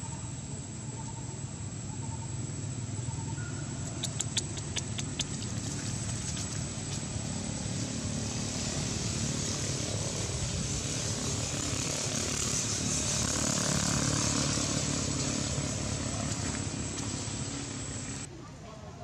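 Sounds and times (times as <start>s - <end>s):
motorbike traffic engine hum: 0.9s - 18.3s.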